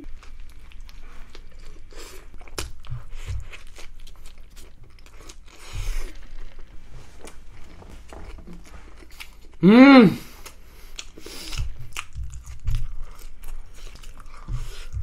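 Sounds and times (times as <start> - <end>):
person chewing a burger: 0.0 - 15.0.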